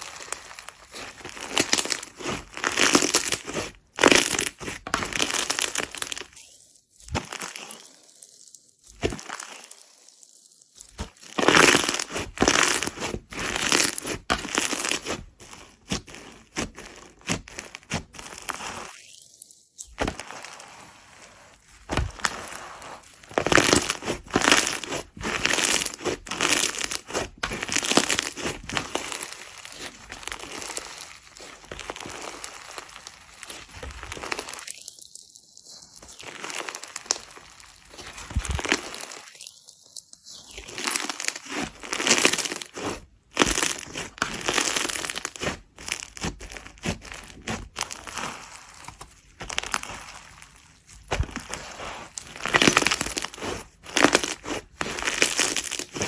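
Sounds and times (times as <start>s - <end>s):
slime crackling and popping: 0.0s - 56.0s.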